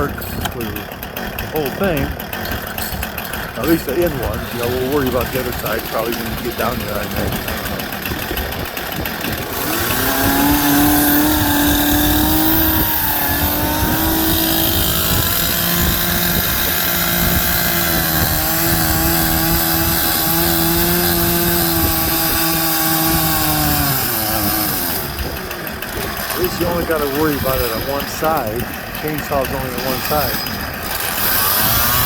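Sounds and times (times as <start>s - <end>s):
chainsaw cutting log: 0.0s - 32.0s.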